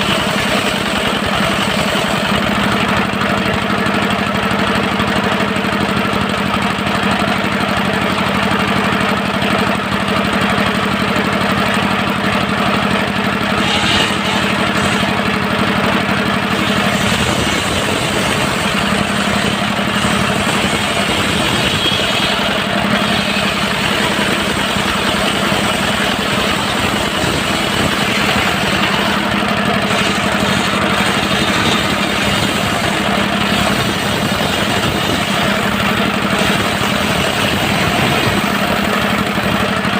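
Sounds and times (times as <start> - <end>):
diesel engine running loudly: 0.0 - 39.9.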